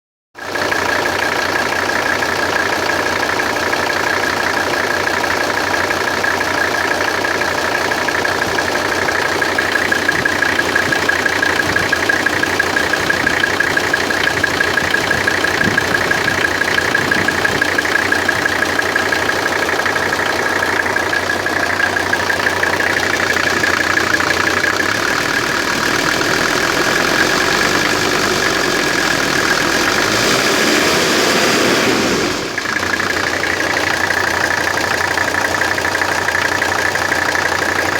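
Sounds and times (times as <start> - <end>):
diesel engine idling with clatter: 0.4 - 37.9.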